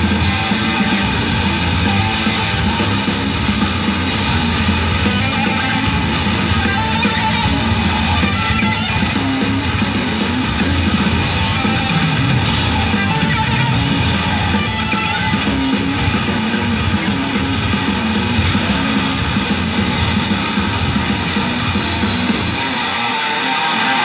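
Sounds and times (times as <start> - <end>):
heavy metal band playing live: 0.0 - 24.0
melodic guitar line: 0.0 - 24.0.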